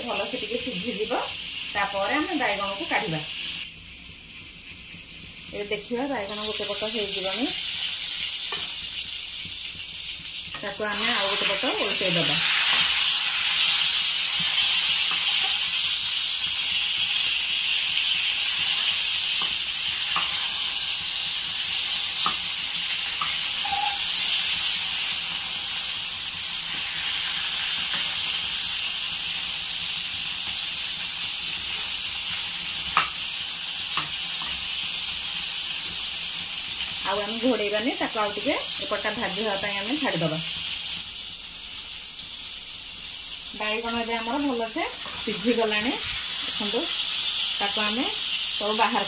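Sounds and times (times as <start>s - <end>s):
eggplant sizzling in oil: 0.0s - 49.0s.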